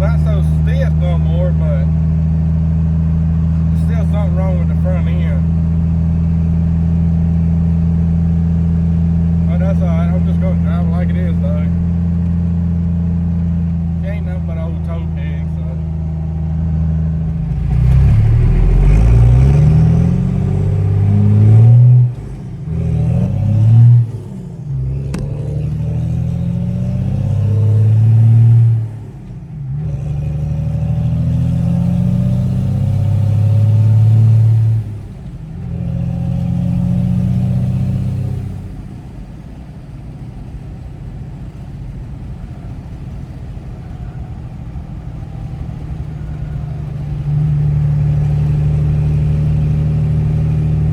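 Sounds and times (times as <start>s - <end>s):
pickup truck engine accelerating: 0.0s - 50.9s.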